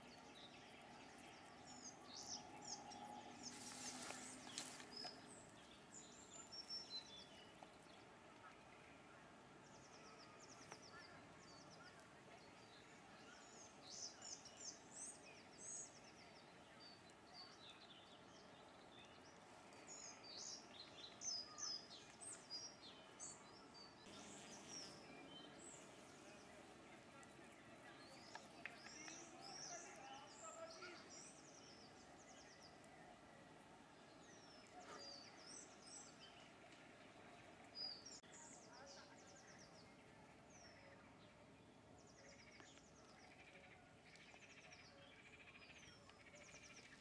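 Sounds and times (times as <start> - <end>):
small birds chirping and trilling: 0.0 - 47.0.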